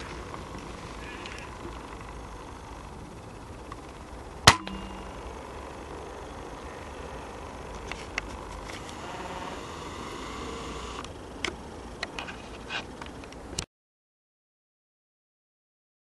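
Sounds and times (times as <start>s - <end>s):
steady background hiss: 0.0s - 13.6s.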